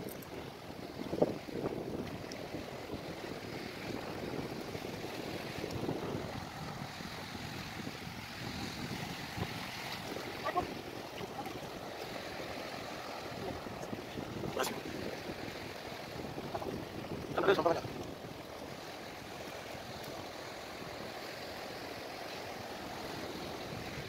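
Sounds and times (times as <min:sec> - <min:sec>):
small waves lapping: 0:00.0 - 0:24.0
wind: 0:00.0 - 0:24.0.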